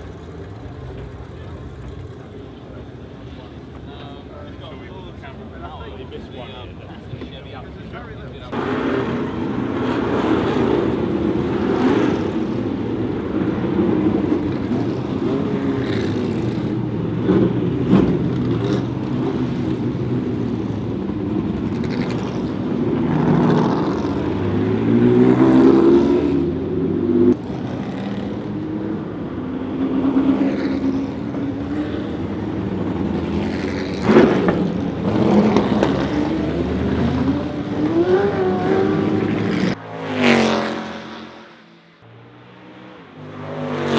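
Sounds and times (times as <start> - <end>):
racing cars passing: 0.0 - 43.9.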